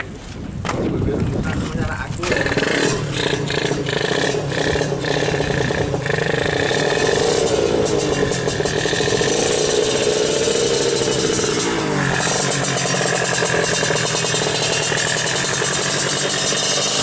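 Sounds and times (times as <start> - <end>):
two-stroke motorcycle engine revving: 2.2 - 17.0.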